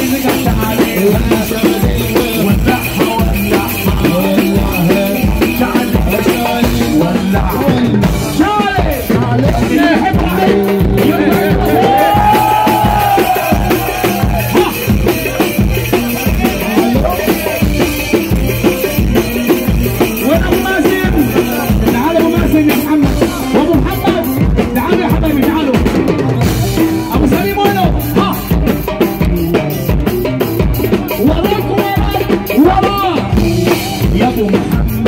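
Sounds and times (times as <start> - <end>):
fast drum beat: 0.0 - 35.0
loud live party music: 0.0 - 35.0.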